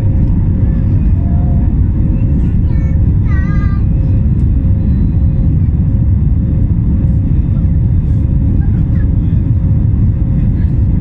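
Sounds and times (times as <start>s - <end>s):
jet engine rumble and airflow: 0.0s - 11.0s.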